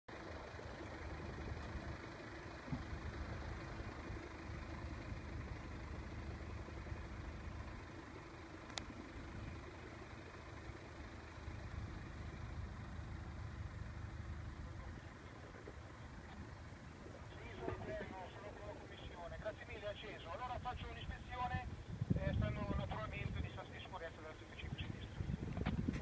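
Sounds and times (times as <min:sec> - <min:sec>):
faint steady hum: 0:00.1 - 0:26.0
vehicle engine idling: 0:00.1 - 0:26.0.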